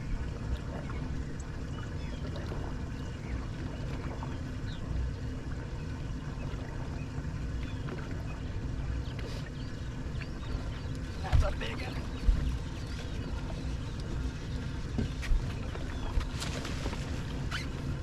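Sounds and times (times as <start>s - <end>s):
boat engine low rumble: 0.0s - 18.0s
water noise: 0.0s - 18.0s.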